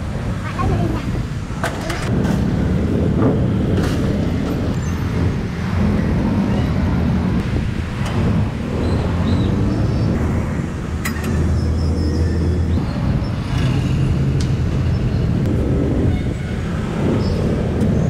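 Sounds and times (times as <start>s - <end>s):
motorbike and car engines passing: 2.0s - 18.0s.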